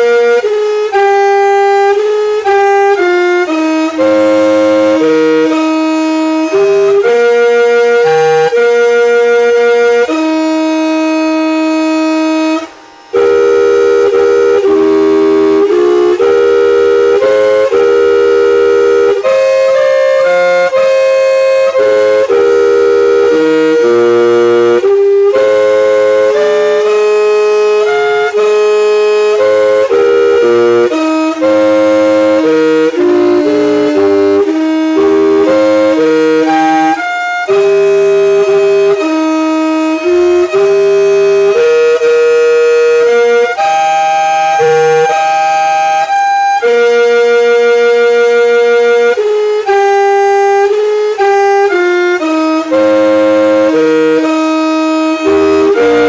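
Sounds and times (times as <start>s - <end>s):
music siren playing a melody: 0.0s - 56.0s.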